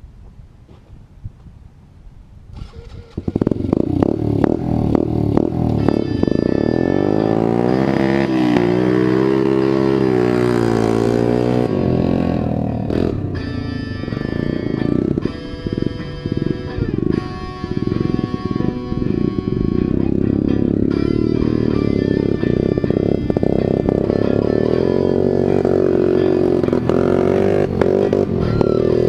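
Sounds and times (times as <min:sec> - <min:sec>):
engine riding past: 0:02.6 - 0:29.0
background music: 0:03.4 - 0:29.0.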